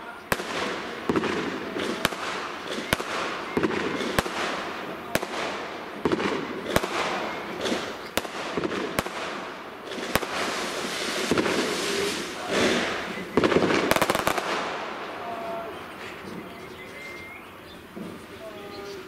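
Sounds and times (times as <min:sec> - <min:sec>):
firework bangs: 0:00.0 - 0:16.9, 0:17.8 - 0:18.6.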